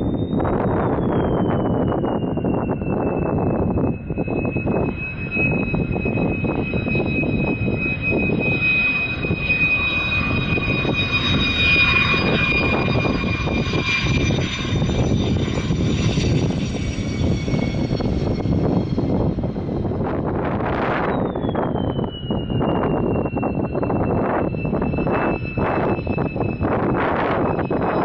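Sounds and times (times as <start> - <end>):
jet engine roar with high whine: 0.0 - 28.0.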